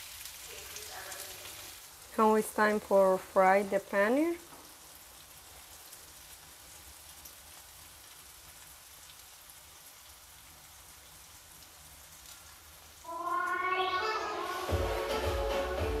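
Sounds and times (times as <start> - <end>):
frying sizzle with crackles: 0.0 - 16.0.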